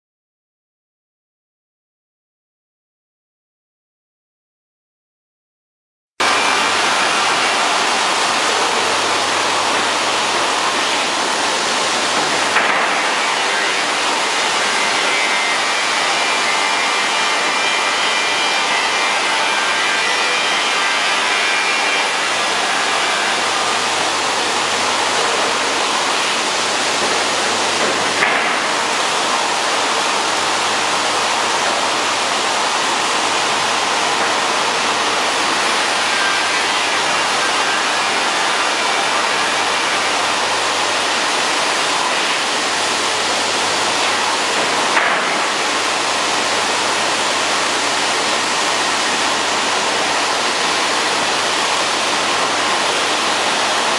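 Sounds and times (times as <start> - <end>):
sanding machine rushing: 6.2 - 53.9.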